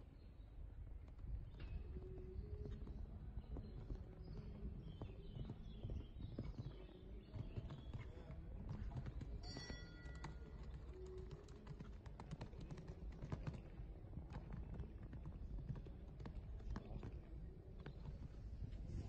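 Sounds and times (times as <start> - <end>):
horse hoofbeats on sand: 1.0 - 19.0.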